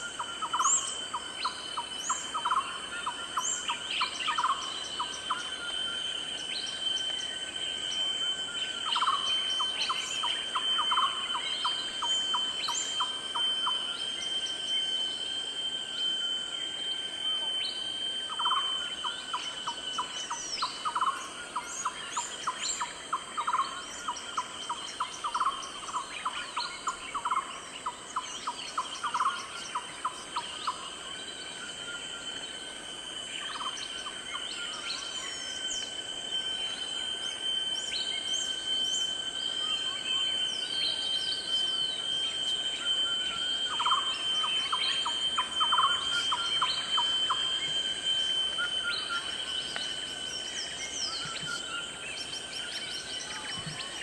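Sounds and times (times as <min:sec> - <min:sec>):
fast pulsed calls: 0:00.0 - 0:53.9
high insect drone: 0:00.0 - 0:54.0.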